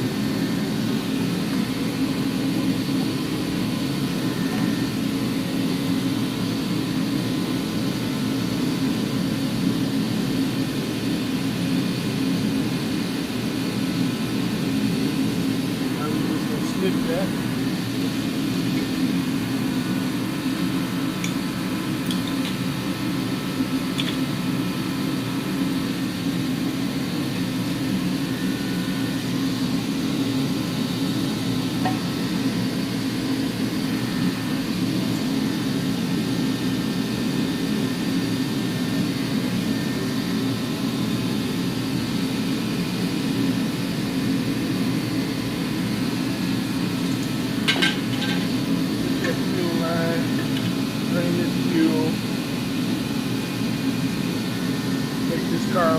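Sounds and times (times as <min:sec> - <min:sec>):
low machine hum: 0:00.0 - 0:55.9.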